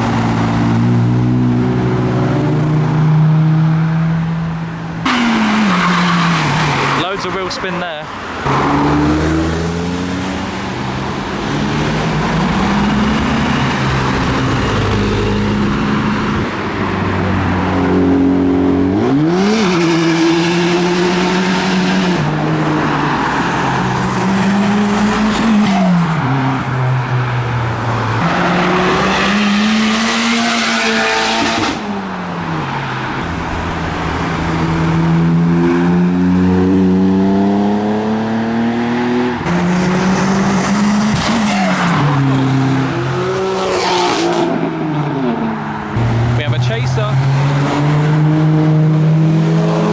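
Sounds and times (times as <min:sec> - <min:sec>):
cars accelerating hard: 0:00.0 - 0:49.9.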